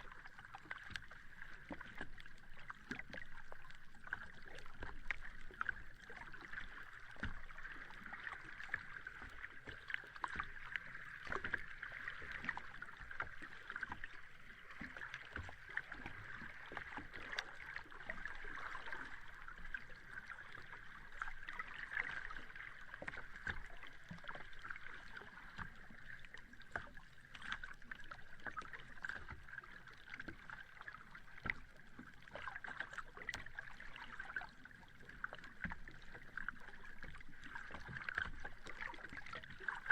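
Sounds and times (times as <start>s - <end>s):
sea water washing on shore: 0.0s - 39.9s
small water crackles and splashes: 0.0s - 39.9s.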